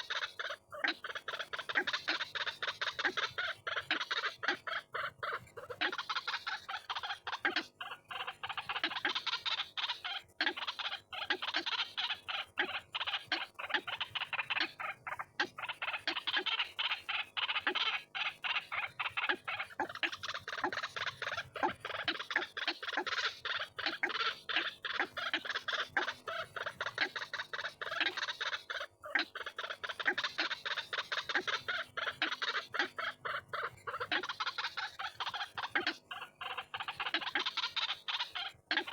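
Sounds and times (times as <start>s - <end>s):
waterhen calling rapidly: 0.0s - 38.9s.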